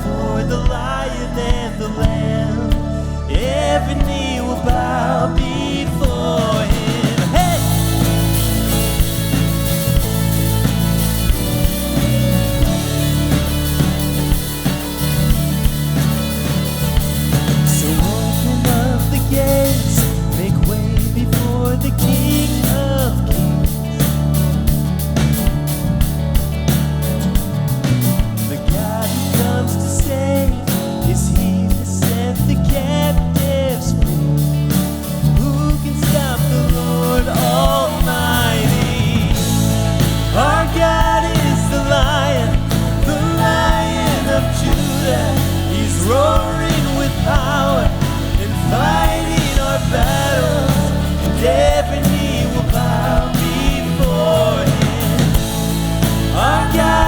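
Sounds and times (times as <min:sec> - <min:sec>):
person singing: 0:00.0 - 0:24.8, 0:28.4 - 0:57.0
rock band playing: 0:00.0 - 0:57.0.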